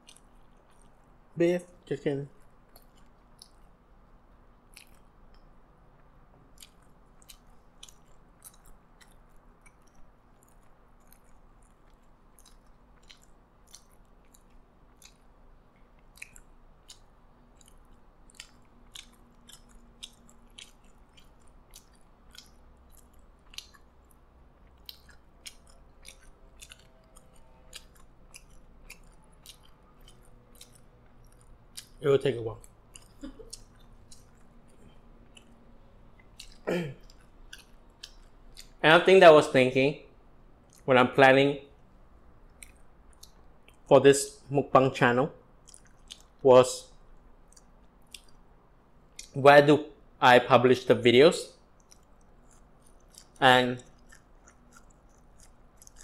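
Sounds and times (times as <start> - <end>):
person chewing: 0.0 - 1.4, 2.3 - 38.8, 40.2 - 40.9, 41.8 - 43.9, 45.4 - 49.4, 51.5 - 56.0.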